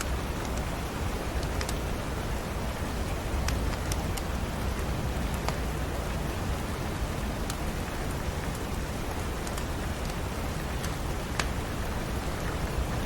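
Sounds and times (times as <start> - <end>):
wood fire crackling: 0.0 - 6.3, 7.0 - 13.0
rain falling: 0.0 - 13.0.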